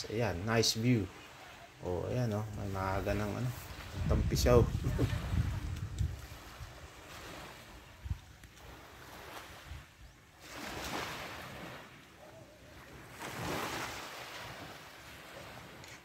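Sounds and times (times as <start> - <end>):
small waves washing on beach: 0.0 - 16.0.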